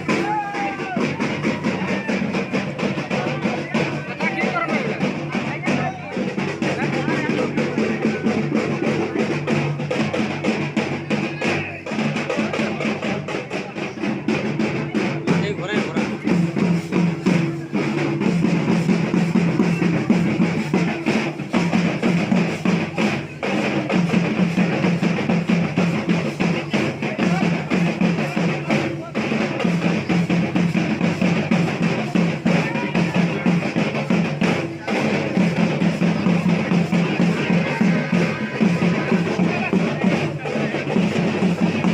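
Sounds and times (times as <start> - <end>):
fast drumming with music: 0.0 - 41.9.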